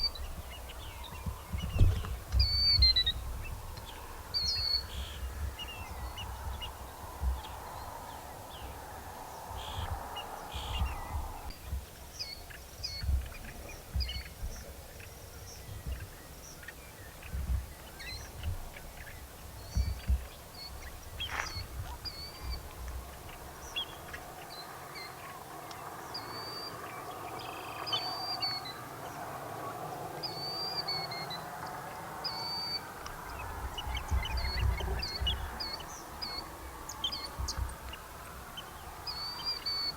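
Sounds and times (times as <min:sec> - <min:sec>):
chorus of bird calls: 0:00.0 - 0:39.9.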